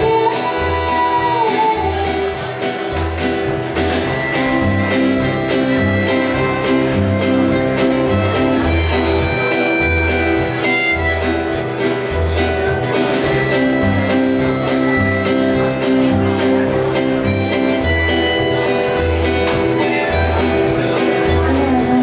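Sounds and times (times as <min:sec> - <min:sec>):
accordion: 0:00.0 - 0:22.0
acoustic guitar: 0:00.0 - 0:22.0
upright bass: 0:00.0 - 0:22.0.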